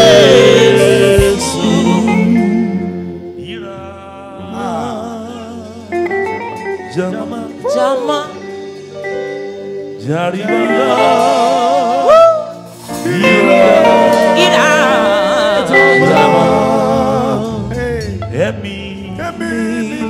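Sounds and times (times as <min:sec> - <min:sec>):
man singing: 0:00.0 - 0:08.1, 0:10.0 - 0:20.0
keyboard and bass band: 0:00.0 - 0:20.0.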